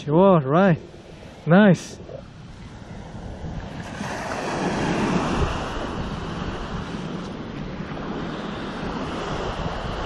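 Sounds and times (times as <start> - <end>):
wind on microphone: 0.7 - 10.0
ocean surf breaking on sand: 0.8 - 10.0.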